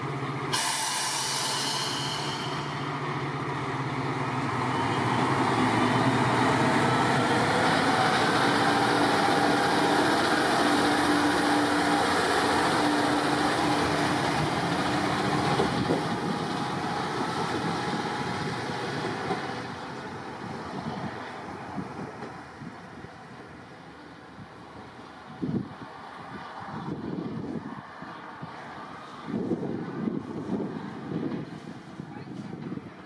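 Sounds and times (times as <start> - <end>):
diesel railcar engine humming: 0.0 - 33.0.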